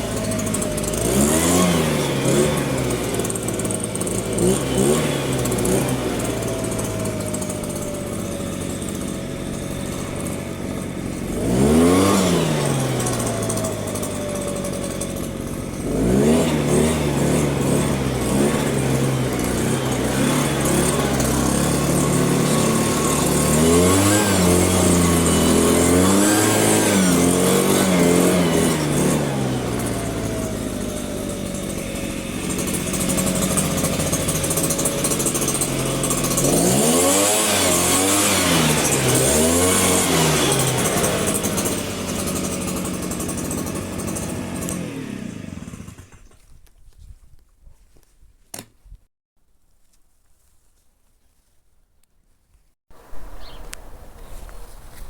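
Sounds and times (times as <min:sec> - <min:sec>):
small two-stroke engine revving: 0:00.0 - 0:46.5.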